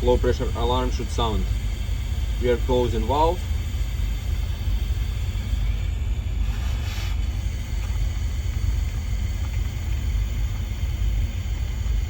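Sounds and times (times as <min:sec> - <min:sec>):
low machinery rumble: 0:00.0 - 0:12.0.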